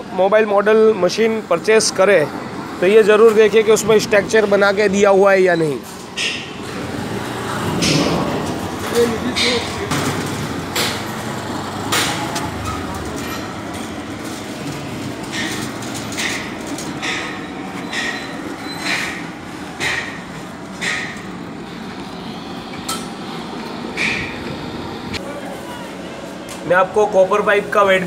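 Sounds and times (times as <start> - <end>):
steady background noise: 0.0 - 28.0.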